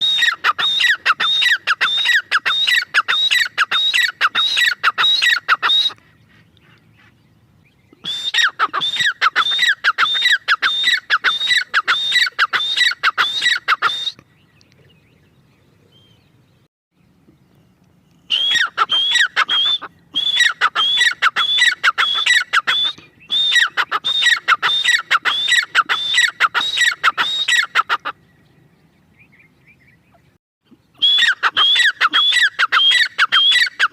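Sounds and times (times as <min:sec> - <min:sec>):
francolin calling: 0:00.0 - 0:06.0, 0:07.6 - 0:16.2, 0:18.2 - 0:30.2, 0:30.8 - 0:33.9.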